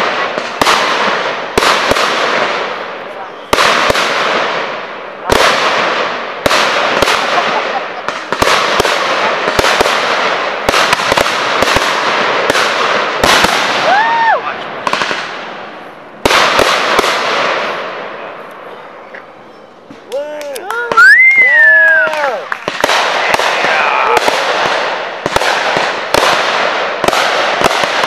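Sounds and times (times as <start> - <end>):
fireworks booming: 0.0 - 20.1, 20.8 - 28.0.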